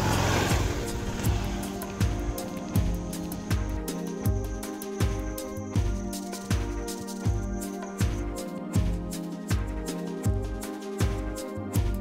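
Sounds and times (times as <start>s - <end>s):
slow beat background music: 0.0s - 12.0s.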